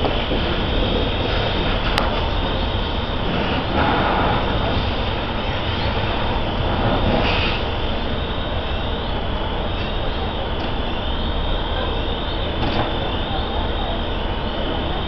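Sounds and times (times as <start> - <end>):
fire engine rumbling with hiss: 0.0 - 15.0.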